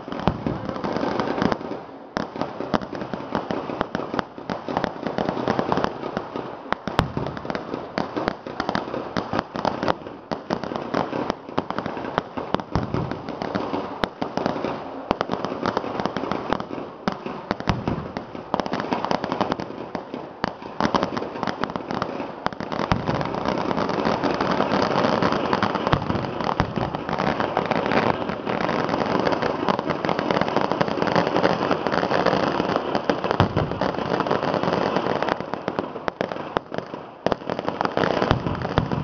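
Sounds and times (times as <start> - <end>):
firecracker bangs and crackling: 0.0 - 39.0.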